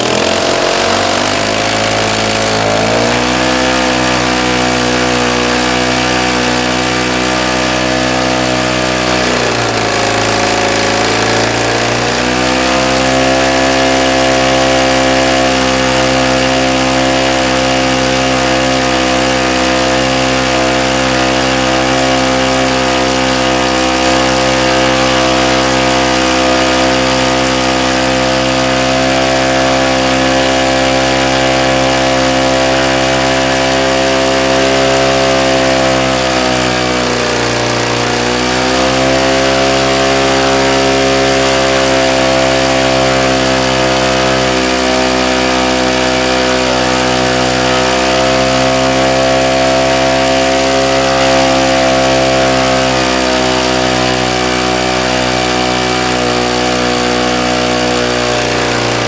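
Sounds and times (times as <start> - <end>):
boxer engine running: 0.0 - 59.0.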